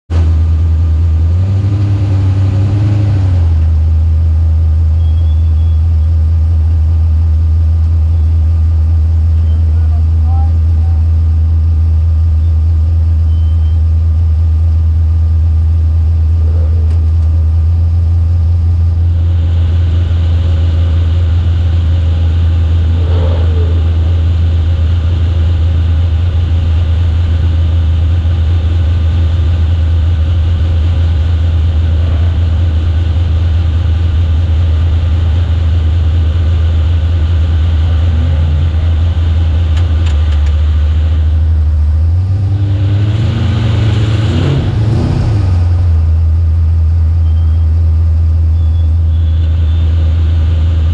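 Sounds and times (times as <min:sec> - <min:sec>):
vehicle engine idling: 0:00.1 - 0:50.9.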